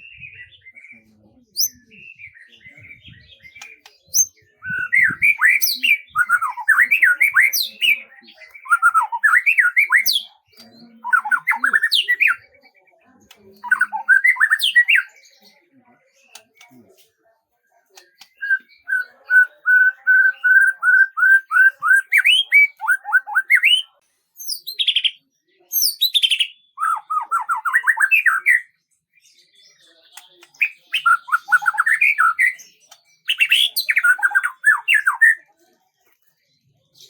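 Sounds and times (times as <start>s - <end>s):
songbird singing trills: 0.0s - 17.0s, 17.9s - 35.5s.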